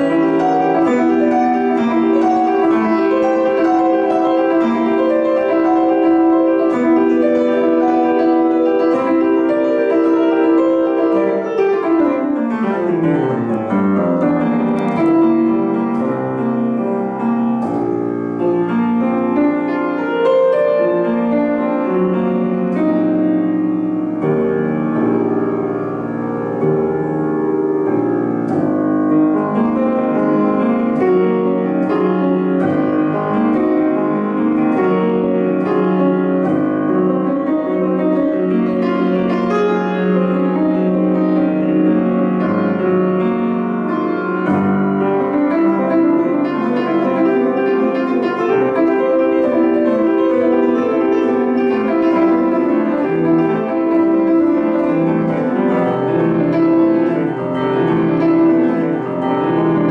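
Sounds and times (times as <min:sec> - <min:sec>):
classical piano piece: 0:00.0 - 0:59.9.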